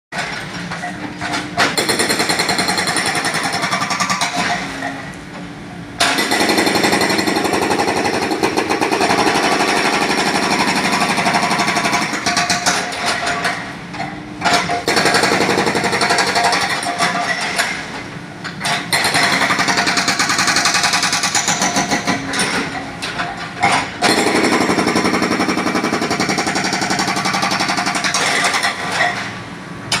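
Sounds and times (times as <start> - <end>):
hydraulic breaker hammering concrete: 1.6 - 5.0, 6.0 - 13.7, 14.4 - 17.9, 18.6 - 23.0, 23.6 - 29.3.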